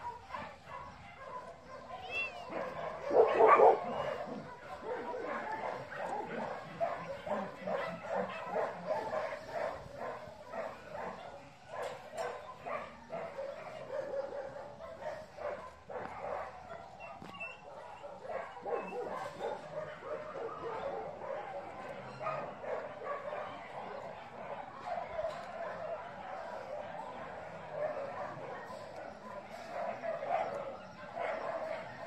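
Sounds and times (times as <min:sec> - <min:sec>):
dog barking: 0:00.0 - 0:32.0.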